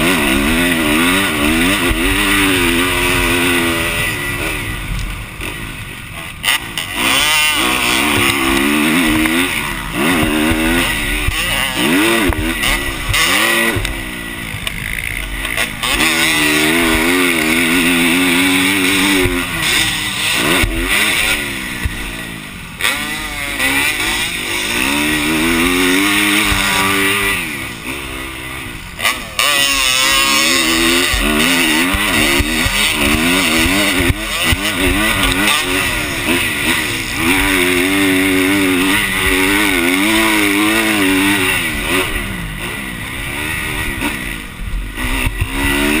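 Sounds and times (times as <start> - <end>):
motorbike engine revving: 0.0 - 46.0.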